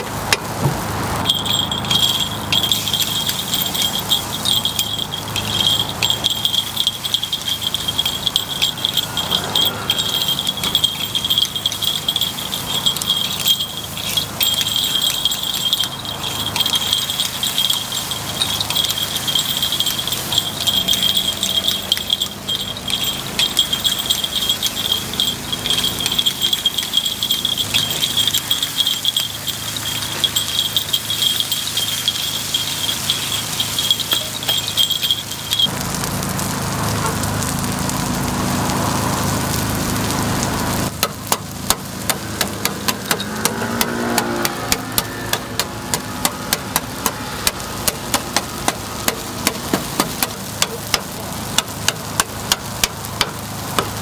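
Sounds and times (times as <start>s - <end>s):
sizzling hiss: 0.0s - 54.0s
metal tools tapping on griddle: 0.3s - 35.7s, 40.9s - 54.0s.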